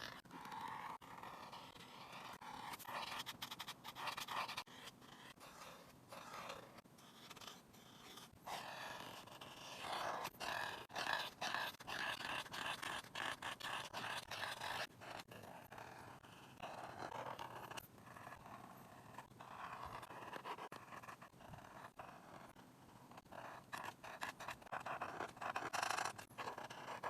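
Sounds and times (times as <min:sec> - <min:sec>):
pen scratching across paper: 0:00.0 - 0:27.0.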